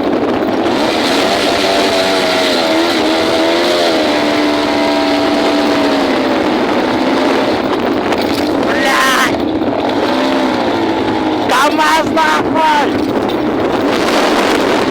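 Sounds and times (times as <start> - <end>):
motorcycle engine at high revs: 0.0 - 14.9.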